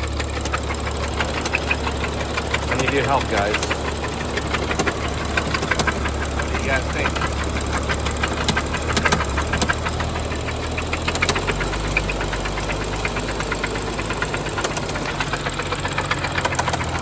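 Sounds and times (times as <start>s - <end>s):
car engine running: 0.0s - 17.0s
engine knocking tick: 0.0s - 17.0s.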